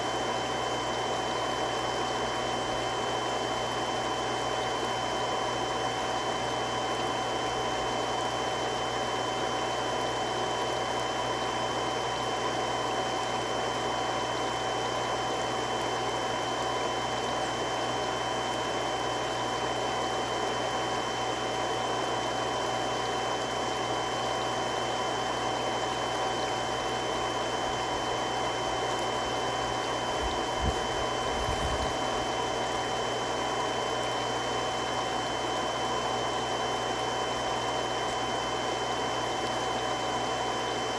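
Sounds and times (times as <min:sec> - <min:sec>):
water pump humming and whining: 0:00.0 - 0:40.9.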